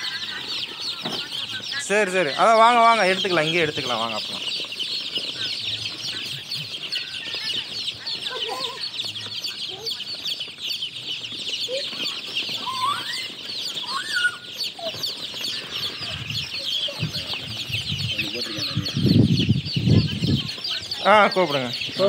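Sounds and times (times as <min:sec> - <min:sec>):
chicks peeping: 0:00.0 - 0:22.0
lower rising chick calls: 0:04.3 - 0:22.0.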